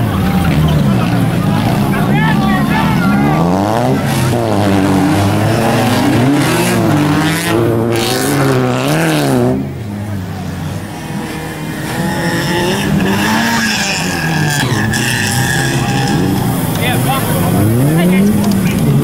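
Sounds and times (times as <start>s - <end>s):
car engine revving hard: 0.0s - 19.0s.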